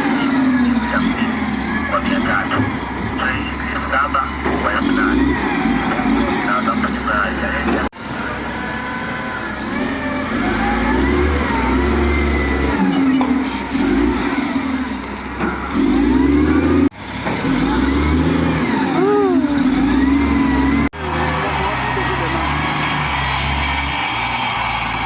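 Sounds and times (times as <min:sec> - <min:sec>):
bulldozer diesel engine revving: 0:00.0 - 0:25.0.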